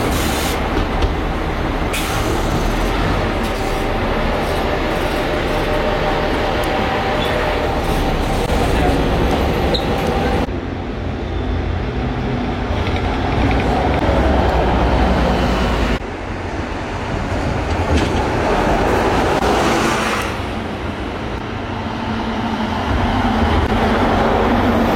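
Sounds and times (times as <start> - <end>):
tram rumbling on rails: 0.0 - 24.9.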